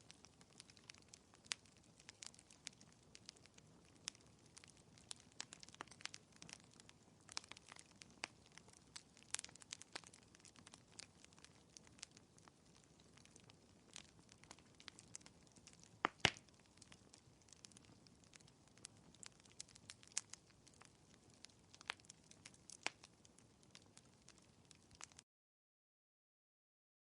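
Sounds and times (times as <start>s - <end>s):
fireplace crackling: 0.0s - 25.2s.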